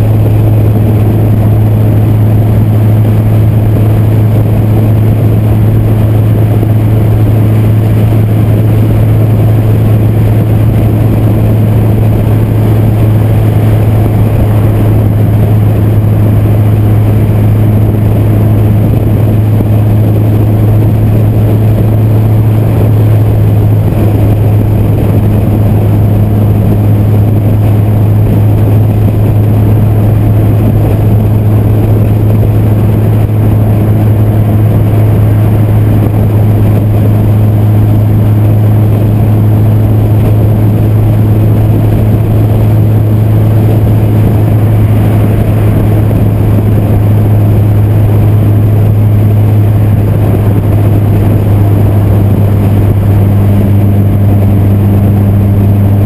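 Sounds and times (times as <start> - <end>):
car engine drone: 0.0 - 56.0
road noise: 0.0 - 56.0
wind noise: 0.0 - 56.0.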